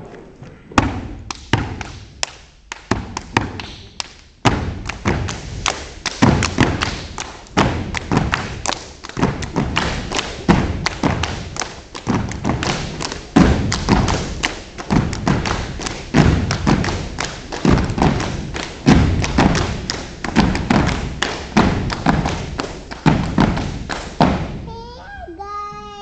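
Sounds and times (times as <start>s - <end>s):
group stomping on floor mats: 0.8s - 2.0s, 2.7s - 24.6s
slaps and taps: 0.8s - 24.4s.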